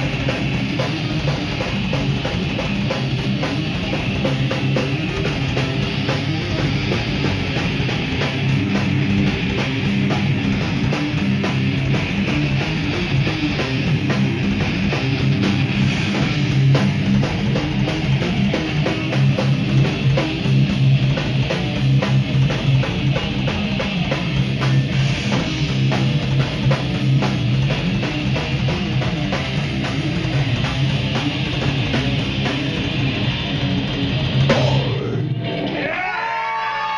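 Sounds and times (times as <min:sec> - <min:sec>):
bass guitar: 0:00.0 - 0:36.9
distorted electric guitars: 0:00.0 - 0:36.9
drum kit: 0:00.0 - 0:36.9.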